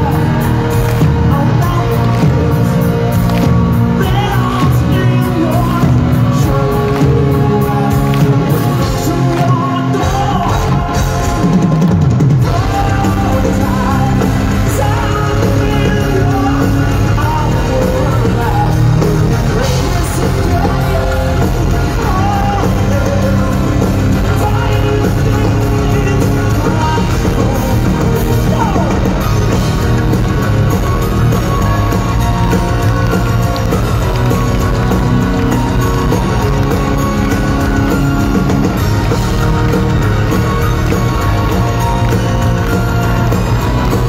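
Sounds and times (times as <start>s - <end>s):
bass guitar: 0.0s - 44.0s
drums: 0.0s - 44.0s
electric guitars: 0.0s - 44.0s.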